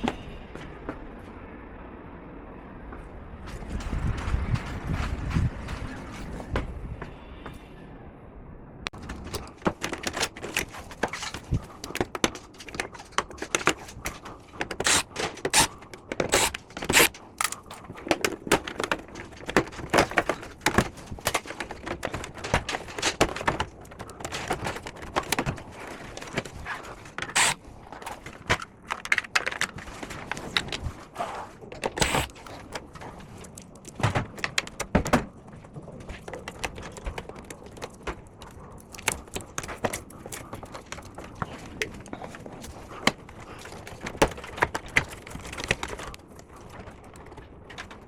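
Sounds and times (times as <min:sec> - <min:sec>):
clicks and knocks of handled parts: 0:08.9 - 0:48.0.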